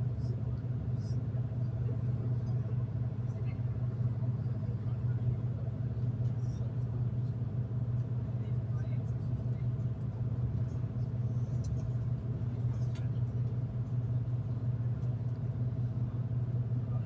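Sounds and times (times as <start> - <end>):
train engine rumble: 0.0 - 17.0.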